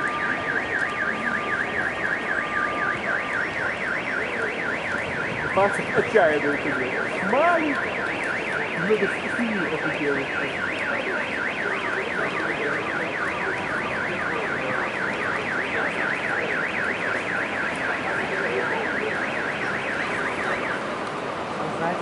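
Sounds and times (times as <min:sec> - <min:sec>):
car alarm siren warbling: 0:00.0 - 0:22.0
steady noisy background: 0:00.0 - 0:22.0.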